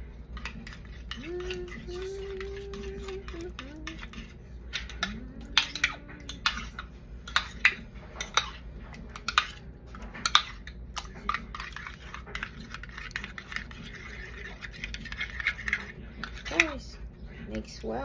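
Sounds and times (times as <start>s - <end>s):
utensil beating eggs in bowl: 0.0s - 18.0s.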